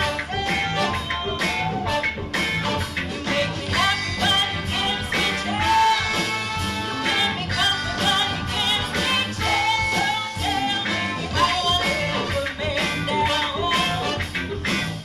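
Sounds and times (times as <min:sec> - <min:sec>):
person singing: 0:00.0 - 0:02.0, 0:02.6 - 0:15.0
band playing upbeat song: 0:00.0 - 0:15.0.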